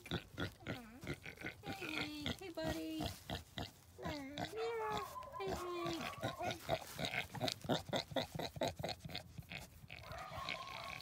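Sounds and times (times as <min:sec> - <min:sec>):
pig grunting softly: 0:00.0 - 0:11.0.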